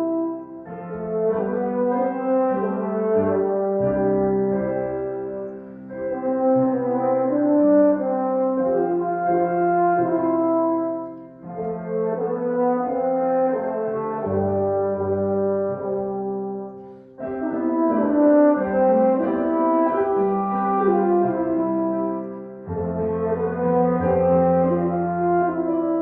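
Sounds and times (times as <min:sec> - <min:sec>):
slow instrumental music: 0:00.0 - 0:26.0.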